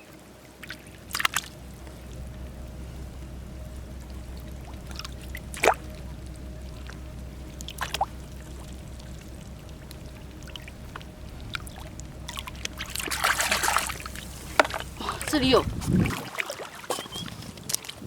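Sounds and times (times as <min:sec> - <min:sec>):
seawater trickling and dripping: 0:00.0 - 0:18.0.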